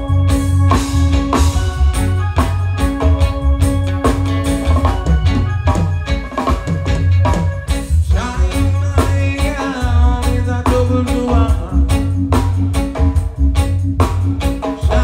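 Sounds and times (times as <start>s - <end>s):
deep bass: 0.0s - 15.0s
drum kit beat: 0.0s - 15.0s
electric guitar: 0.0s - 15.0s.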